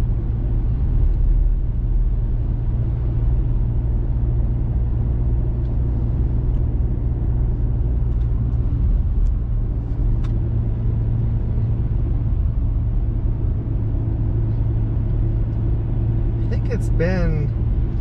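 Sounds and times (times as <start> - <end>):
vehicle engine and tyres hum: 0.0 - 18.0.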